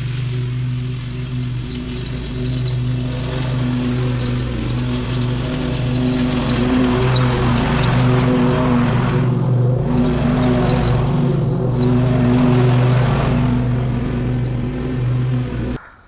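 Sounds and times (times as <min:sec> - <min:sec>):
small petrol engine running: 0:00.0 - 0:15.8.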